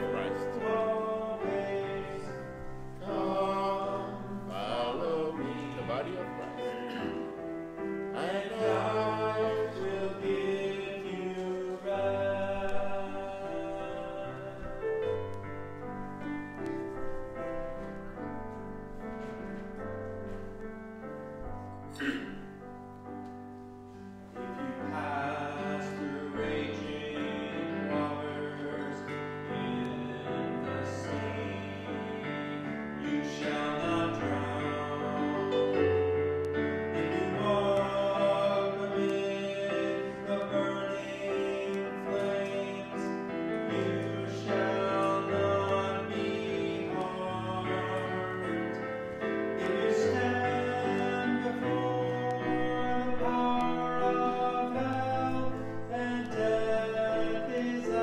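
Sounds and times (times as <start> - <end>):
person singing: 0.0 - 7.4, 8.0 - 16.7, 24.4 - 58.0
hymn on keyboard: 0.0 - 58.0.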